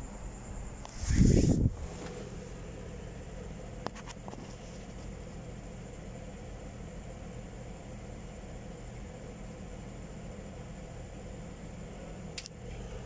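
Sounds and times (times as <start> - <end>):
computer fans whirring: 0.0 - 13.0.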